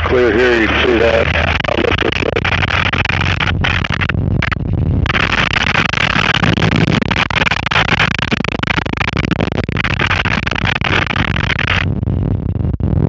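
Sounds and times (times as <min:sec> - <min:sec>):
aircraft engine and propeller running: 0:00.0 - 0:11.8.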